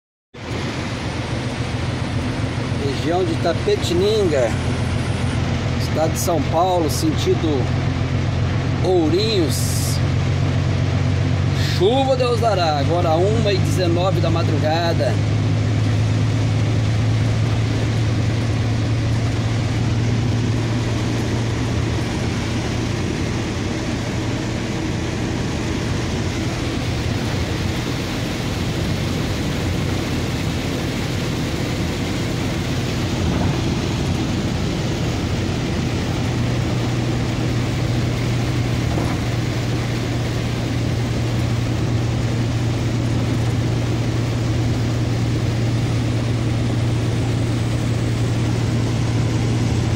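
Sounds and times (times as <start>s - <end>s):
engine hum: 0.3s - 49.9s
rain and tyres hissing on wet road: 0.4s - 49.9s.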